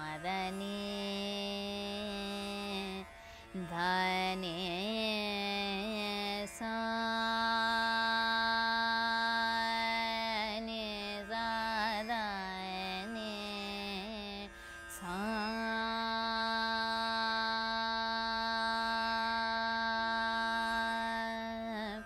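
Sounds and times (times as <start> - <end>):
plucked tanpura drone: 0.0 - 22.0.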